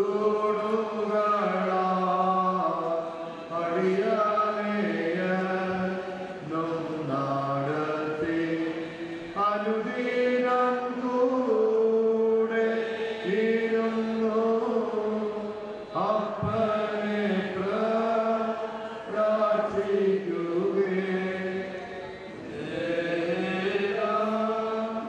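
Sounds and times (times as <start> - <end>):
group singing a church chant: 0.0 - 25.0.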